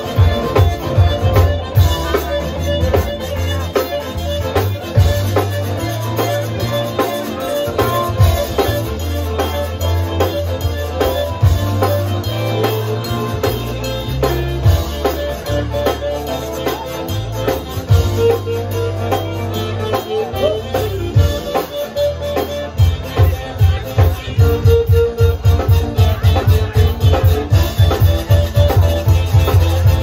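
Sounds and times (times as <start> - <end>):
drum kit dance beat: 0.0 - 30.0
electric guitar: 0.0 - 30.0
walking bass line: 0.0 - 30.0.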